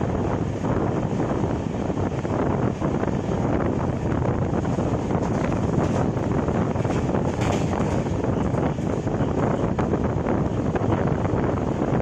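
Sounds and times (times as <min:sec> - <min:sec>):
passenger coach rumbling at speed: 0:00.0 - 0:12.0
wind noise on microphone: 0:00.0 - 0:12.0.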